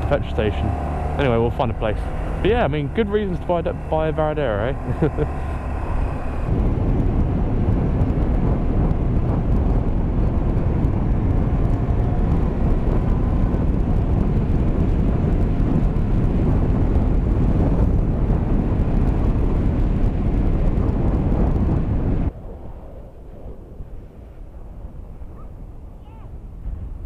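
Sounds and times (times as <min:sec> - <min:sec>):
motorcycle engine running: 0:00.0 - 0:22.3
wind roar on microphone: 0:00.0 - 0:27.0.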